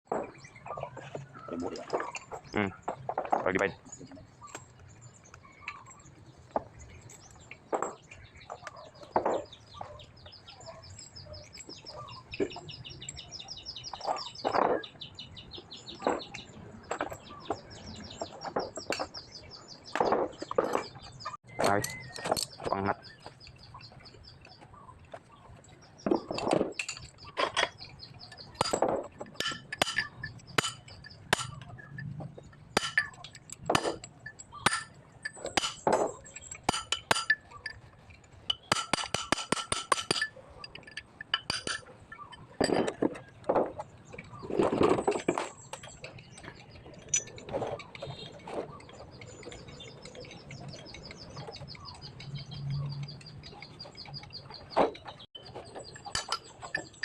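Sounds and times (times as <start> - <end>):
metal tools clinking: 7.0 - 24.6, 25.6 - 57.0.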